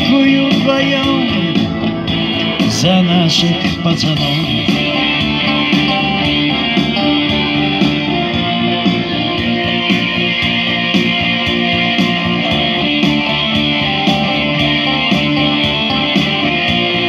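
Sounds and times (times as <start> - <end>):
electric guitar melody: 0.0 - 17.0
steady drum beat: 0.0 - 17.0.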